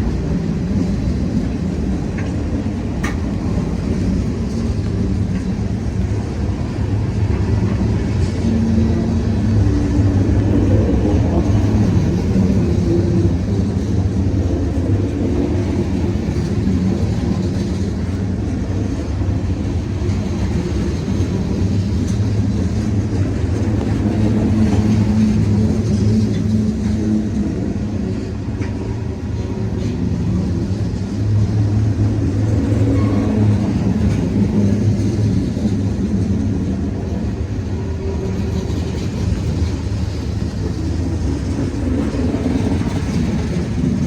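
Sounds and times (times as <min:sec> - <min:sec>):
freight train rumbling: 0:00.0 - 0:44.0.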